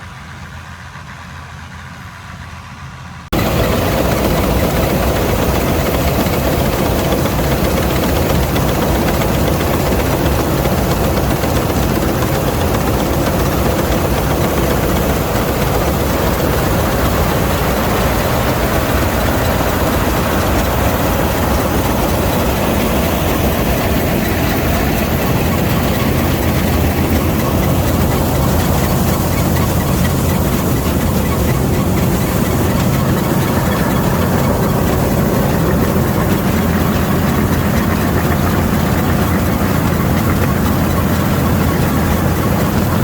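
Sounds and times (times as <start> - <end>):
combine harvester running: 0.0 - 43.0.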